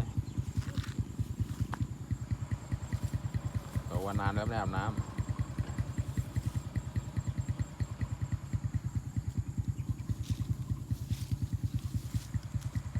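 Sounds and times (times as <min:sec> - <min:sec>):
small engine idling: 0:00.0 - 0:12.9.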